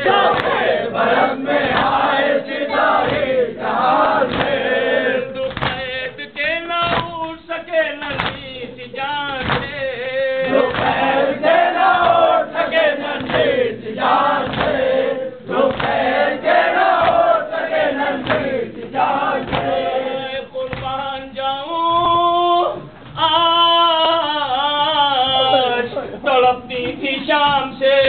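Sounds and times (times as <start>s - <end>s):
men chanting in unison: 0.0s - 6.2s, 9.3s - 28.0s.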